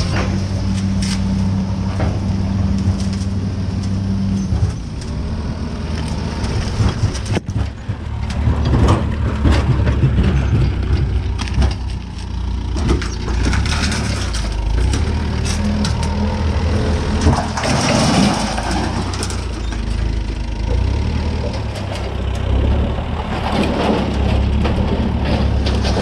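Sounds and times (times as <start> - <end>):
knocks and clatter: 0.0 - 5.3, 5.9 - 26.0
engine running steadily: 0.0 - 26.0.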